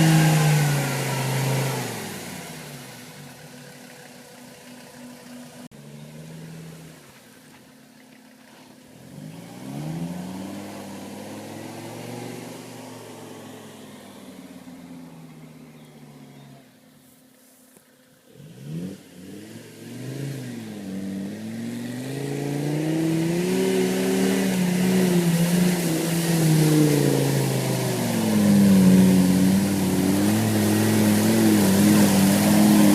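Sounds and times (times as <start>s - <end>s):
diesel engine revving: 0.0s - 7.4s, 8.8s - 16.7s, 18.3s - 32.9s.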